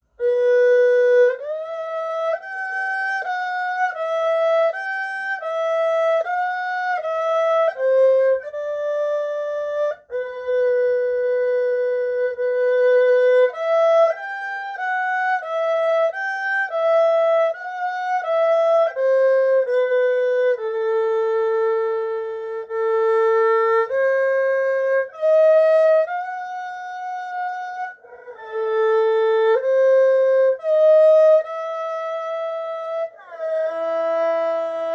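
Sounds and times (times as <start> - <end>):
bowed erhu melody: 0.0 - 34.9.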